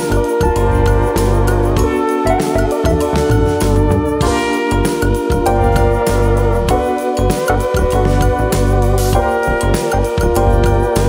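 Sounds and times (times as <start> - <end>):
keyboard instrumental with bass beat: 0.0 - 11.0.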